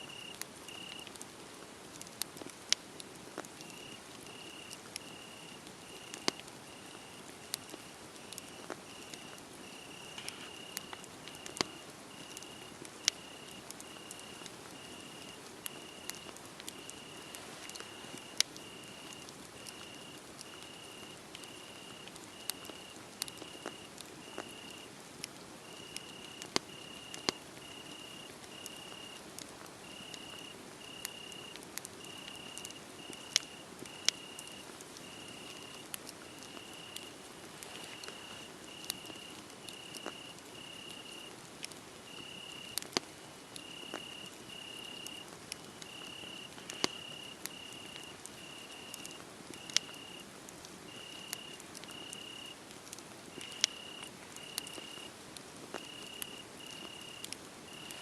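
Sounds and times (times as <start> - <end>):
cricket chirping: 0.0 - 1.1, 3.6 - 24.9, 25.6 - 29.2, 29.8 - 41.3, 42.1 - 42.8, 43.6 - 45.2, 45.8 - 50.2, 50.9 - 52.6, 53.3 - 55.1, 55.7 - 58.0
wood fire crackling: 0.1 - 58.0.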